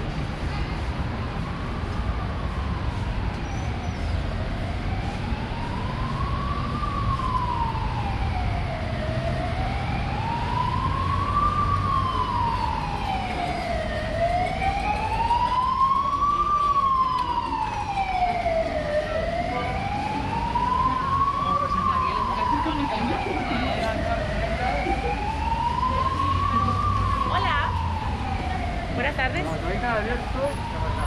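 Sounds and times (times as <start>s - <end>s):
city traffic rumble: 0.0s - 31.0s
emergency siren wailing: 0.6s - 31.0s.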